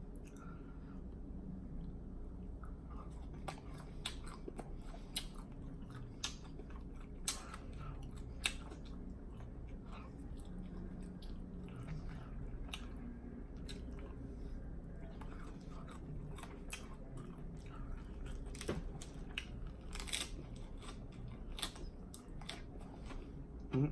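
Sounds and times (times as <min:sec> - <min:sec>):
person chewing food: 0:00.0 - 0:23.7.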